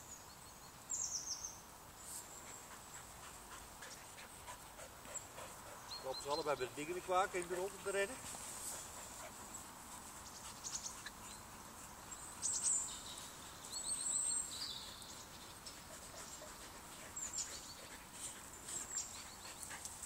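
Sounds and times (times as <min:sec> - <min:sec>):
birds chirping: 0:00.0 - 0:20.0
faint outdoor background noise: 0:00.0 - 0:20.0.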